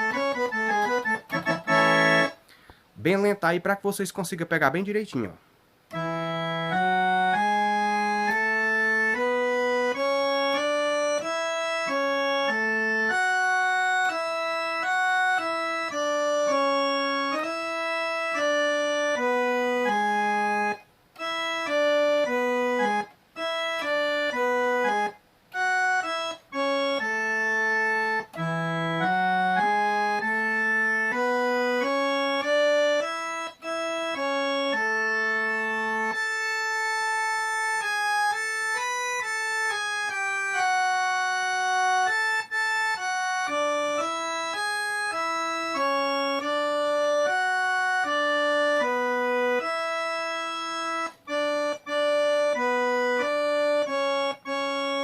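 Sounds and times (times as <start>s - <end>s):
electronic keyboard solo: 0.0s - 2.4s, 5.9s - 55.0s.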